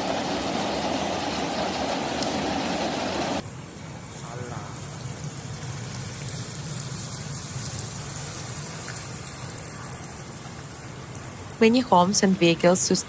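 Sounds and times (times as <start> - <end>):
hail and rain falling: 0.0 - 3.4, 4.1 - 12.7.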